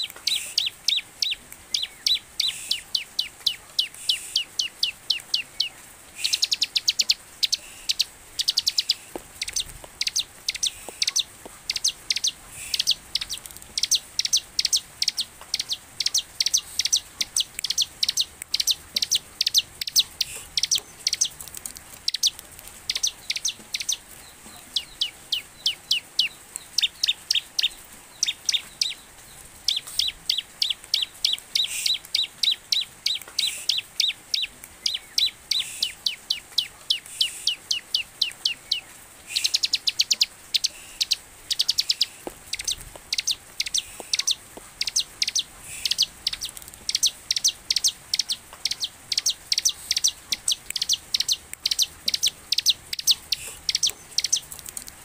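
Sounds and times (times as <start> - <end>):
bird singing sharp high chirps: 0.0 - 21.3, 22.1 - 24.0, 29.7 - 54.5.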